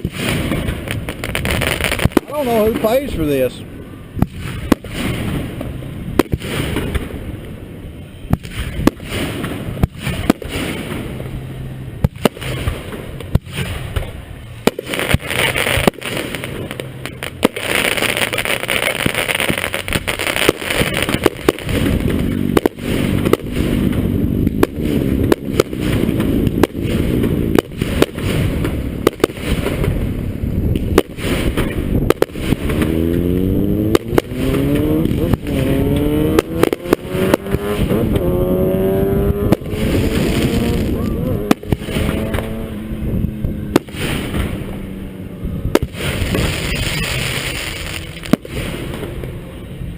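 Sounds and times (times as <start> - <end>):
fireworks bangs and crackle: 0.0 - 49.9.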